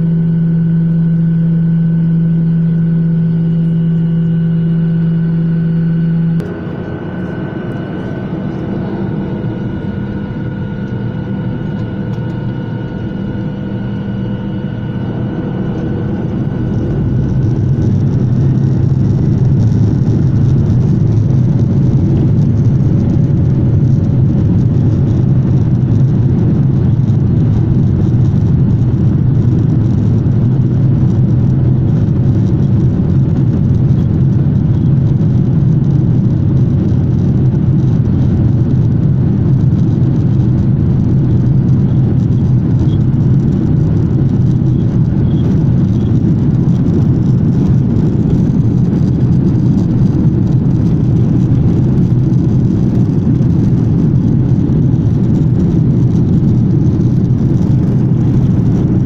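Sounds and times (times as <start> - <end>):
cabin air: 0.0 - 59.0
jet engines rumbling: 0.0 - 59.0.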